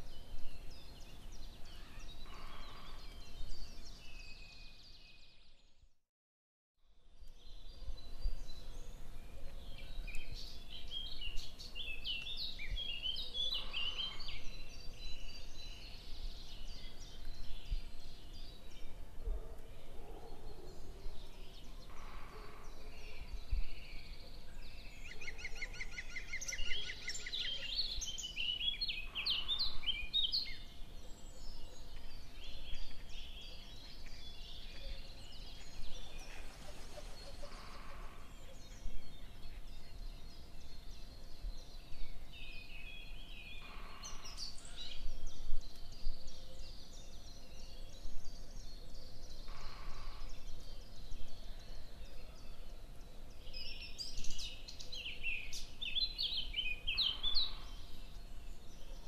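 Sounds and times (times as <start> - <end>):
small birds chirping: 7.1 - 59.0.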